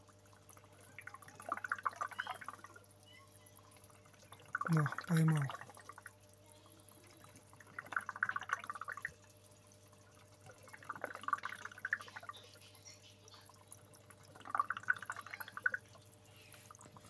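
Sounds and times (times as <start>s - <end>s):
faint steady hum: 0.0s - 17.0s
water gurgling and trickling: 0.0s - 17.0s.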